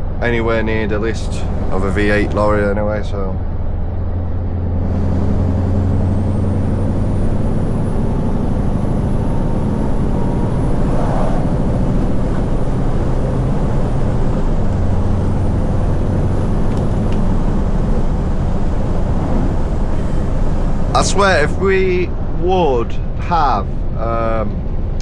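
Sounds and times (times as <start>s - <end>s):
lorry engine humming: 0.0s - 25.0s.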